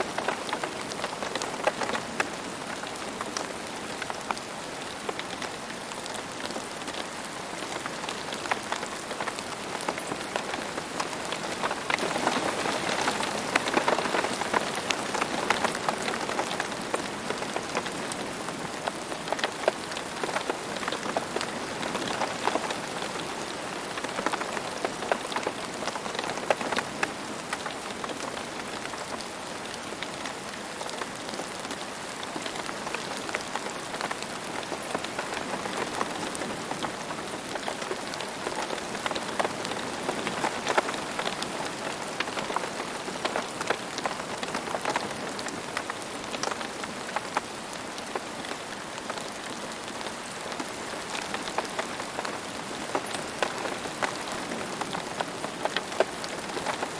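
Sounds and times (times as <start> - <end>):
rain falling on ground: 0.0 - 56.9.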